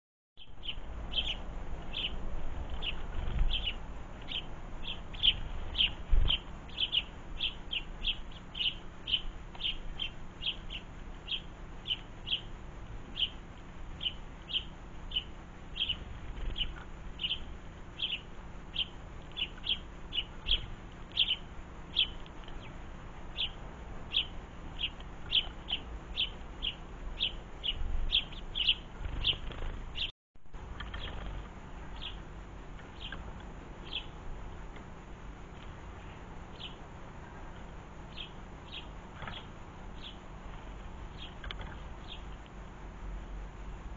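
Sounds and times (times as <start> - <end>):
sparrow chirping: 0.4 - 30.1, 30.8 - 34.2, 35.5 - 40.3, 41.0 - 42.5.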